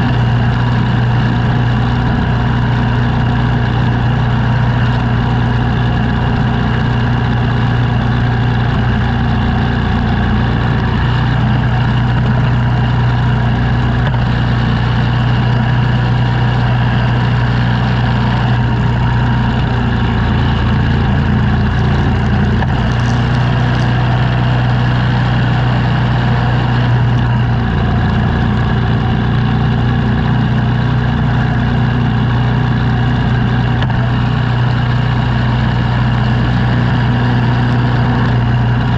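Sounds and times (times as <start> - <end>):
snow-clearing machine engine humming: 0.0 - 38.9.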